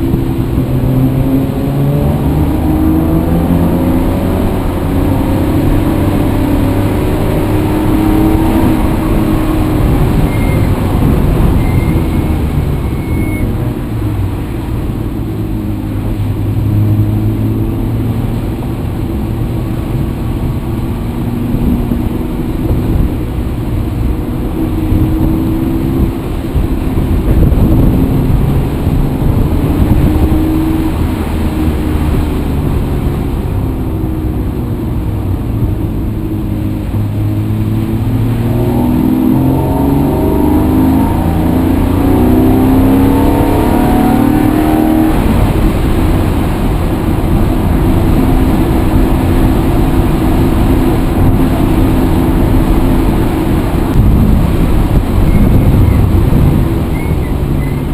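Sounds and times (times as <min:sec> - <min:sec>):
vehicle engine while driving: 0:00.0 - 0:57.9.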